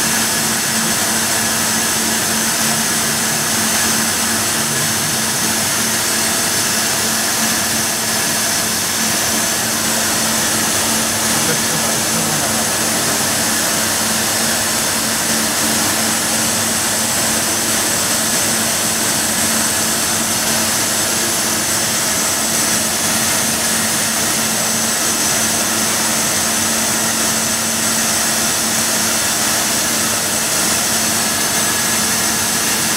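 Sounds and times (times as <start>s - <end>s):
machining centre whirring hiss: 0.0s - 27.3s.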